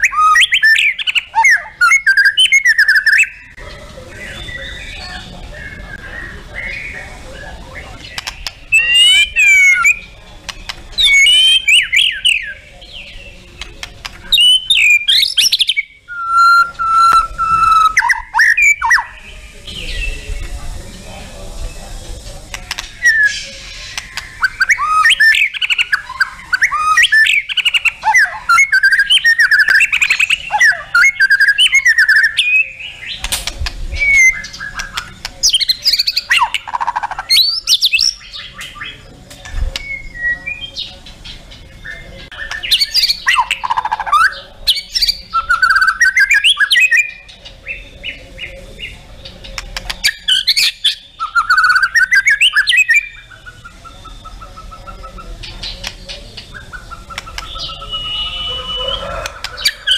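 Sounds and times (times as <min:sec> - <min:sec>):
bird singing whistles and trills: 0:00.0 - 0:03.6, 0:04.2 - 0:13.6, 0:14.2 - 0:20.6, 0:22.7 - 0:33.3, 0:33.9 - 0:39.1, 0:39.8 - 0:59.9.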